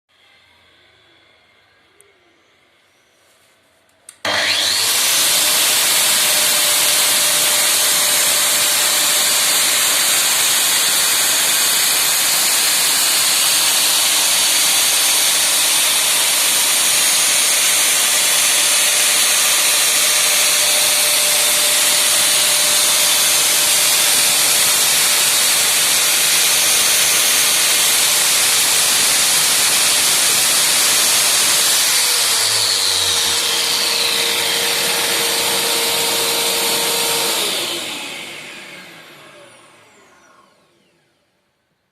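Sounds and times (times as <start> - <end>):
wall chaser running: 4.2 - 40.4
vacuum cleaner running: 4.2 - 41.3.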